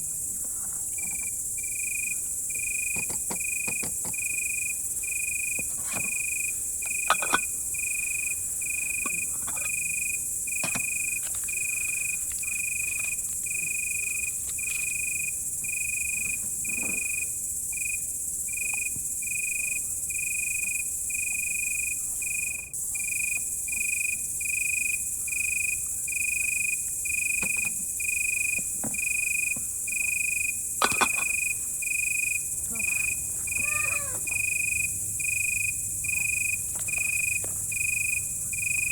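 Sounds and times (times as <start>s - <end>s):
crickets chirping: 0.0s - 38.9s
high-pitched insect trill: 0.9s - 38.9s.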